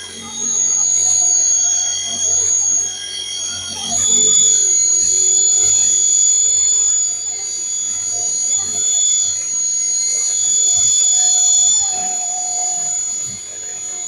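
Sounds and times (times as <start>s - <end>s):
rc helicopter whine: 0.0s - 14.0s.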